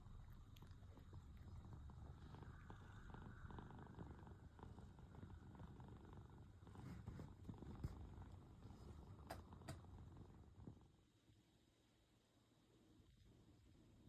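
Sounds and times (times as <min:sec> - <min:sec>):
cat purring: 0:00.0 - 0:11.7.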